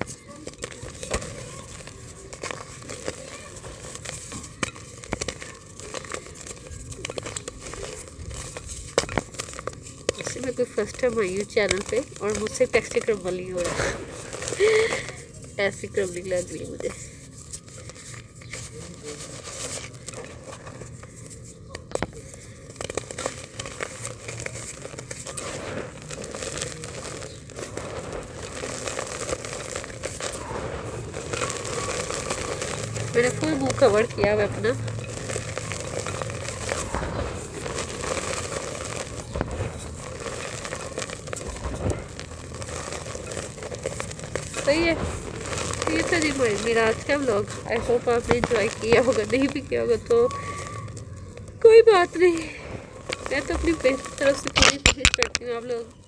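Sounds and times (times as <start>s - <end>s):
clay lumps crushed by fingers: 0.0s - 56.0s
powder falling rustle: 0.0s - 56.0s.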